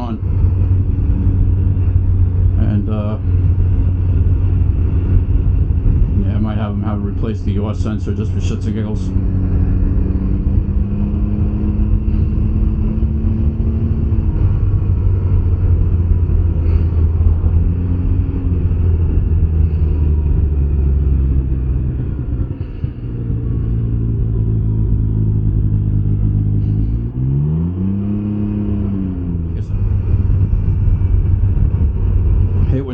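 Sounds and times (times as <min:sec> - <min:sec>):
engine revving up: 0:00.0 - 0:32.9
three-wheeler engine running: 0:00.0 - 0:32.9.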